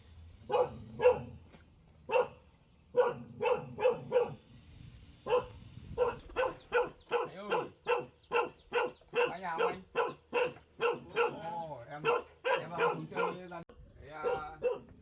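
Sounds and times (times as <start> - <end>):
dog barking: 0.4 - 1.4, 2.1 - 4.4, 5.2 - 13.6, 14.2 - 15.0.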